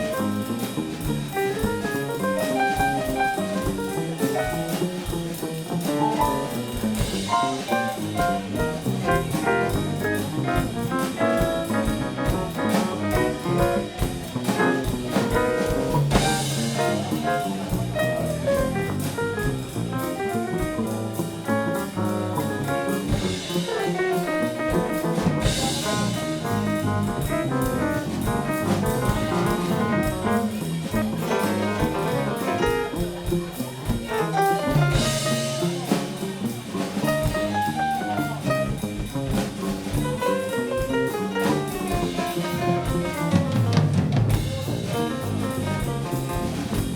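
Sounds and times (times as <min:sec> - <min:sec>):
drums beating: 0:00.0 - 0:46.9
live jazz band playing: 0:00.0 - 0:46.9.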